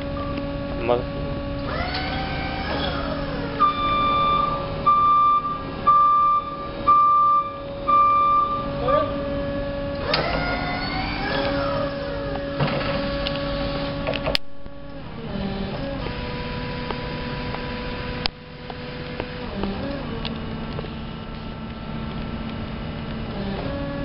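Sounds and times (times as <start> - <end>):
electric forklift drive whining: 0.0 - 24.0
steady electric hum: 0.0 - 24.0.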